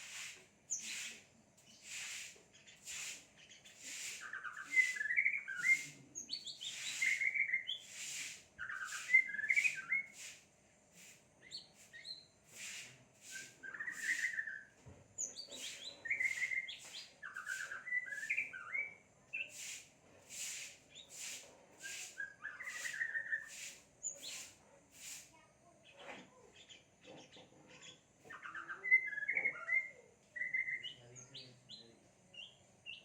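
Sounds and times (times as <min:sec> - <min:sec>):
songbird singing: 0:00.0 - 0:10.4, 0:11.0 - 0:19.8, 0:20.4 - 0:24.8, 0:25.7 - 0:33.0.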